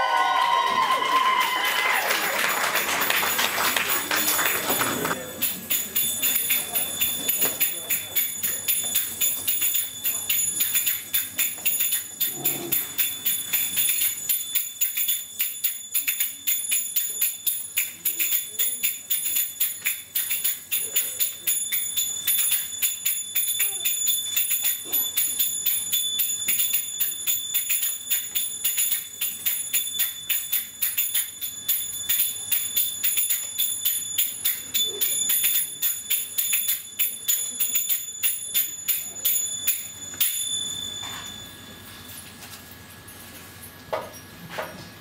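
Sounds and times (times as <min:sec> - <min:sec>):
finger cymbals striking: 0:05.1 - 0:42.1.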